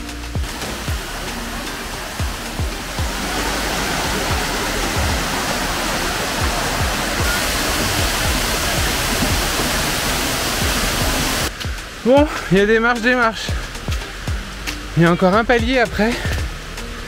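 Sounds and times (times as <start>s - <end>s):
background music with low beat: 0.0s - 17.0s
water rushing over rocks: 0.0s - 17.0s.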